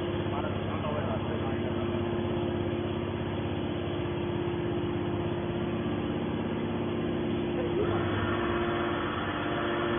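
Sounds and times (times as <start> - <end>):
electric motor and pump humming: 0.0 - 9.9.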